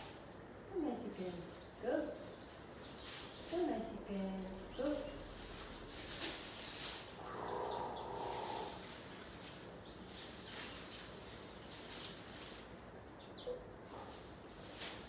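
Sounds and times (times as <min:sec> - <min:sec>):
rustling of leaves and hay: 0:00.0 - 0:15.0
small birds chirping: 0:00.0 - 0:15.0.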